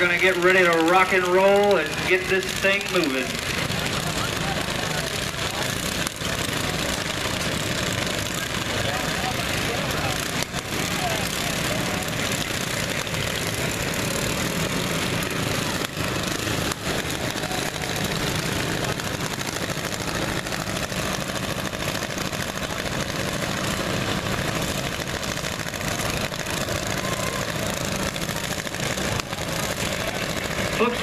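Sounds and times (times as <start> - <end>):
lawn mower engines idling: 0.0 - 31.0.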